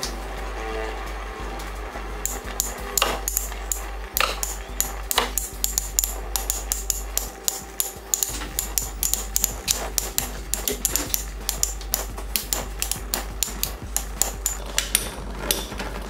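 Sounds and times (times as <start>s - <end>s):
spinning tops clicking together: 2.3s - 15.6s.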